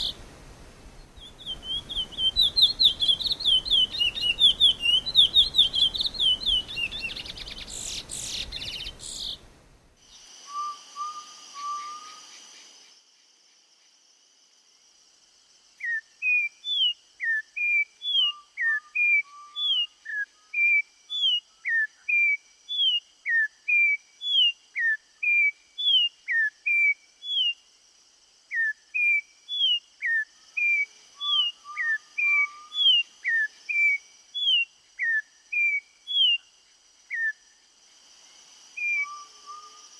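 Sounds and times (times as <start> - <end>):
songbird chirping and whistling: 1.0 - 9.4, 10.1 - 12.7, 15.8 - 27.6, 28.5 - 36.5, 37.1 - 37.6, 38.8 - 39.9.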